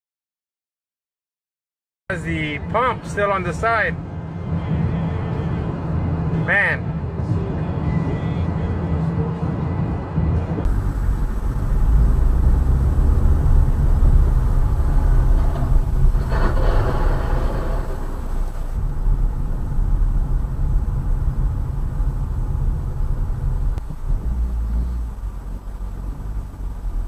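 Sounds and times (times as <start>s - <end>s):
car driving on road: 4.0s - 27.0s.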